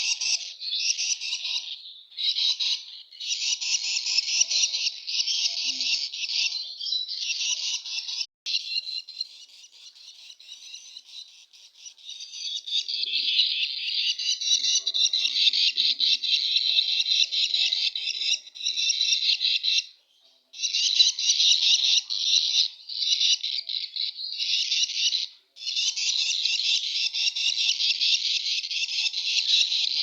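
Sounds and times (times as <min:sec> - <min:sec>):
baby birds chattering: 0:00.0 - 0:30.0.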